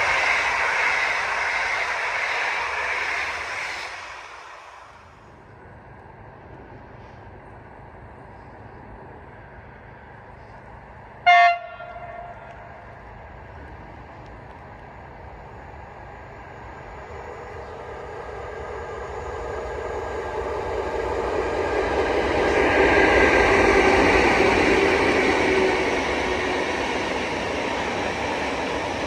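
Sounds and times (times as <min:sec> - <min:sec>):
train running noise: 0:00.0 - 0:29.0.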